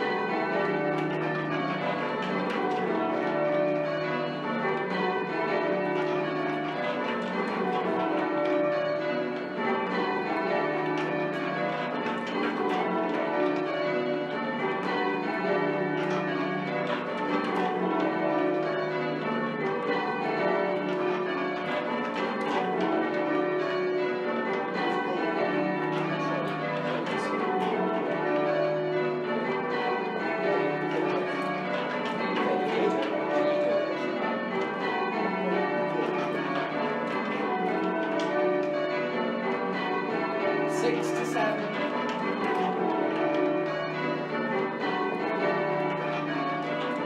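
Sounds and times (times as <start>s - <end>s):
church bells ringing: 0.0s - 47.0s.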